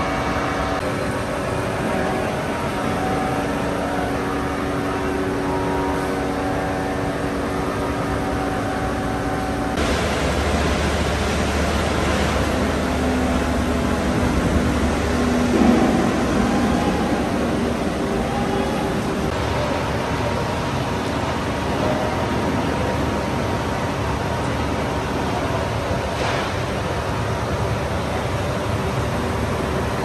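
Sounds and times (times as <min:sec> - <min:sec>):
deep rumbling machine noise: 0:00.0 - 0:30.0
rolling mill machinery rushing: 0:00.0 - 0:30.0.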